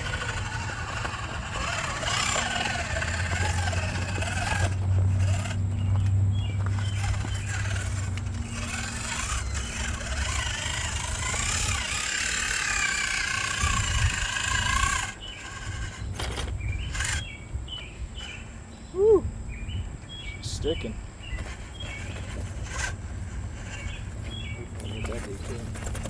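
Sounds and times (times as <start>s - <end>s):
small electric motor whining: 0.0s - 18.7s, 21.2s - 26.0s.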